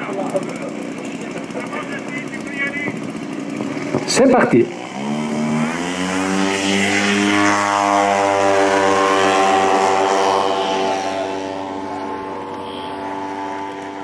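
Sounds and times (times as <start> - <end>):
model plane engine at full throttle: 0.0 - 14.0.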